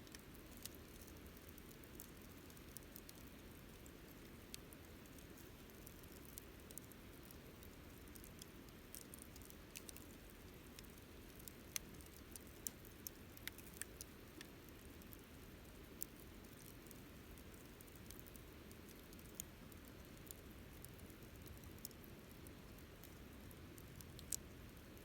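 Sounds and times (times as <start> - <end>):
campfire crackling and popping: 0.0 - 25.0
soft rush of burning wood: 0.0 - 25.0.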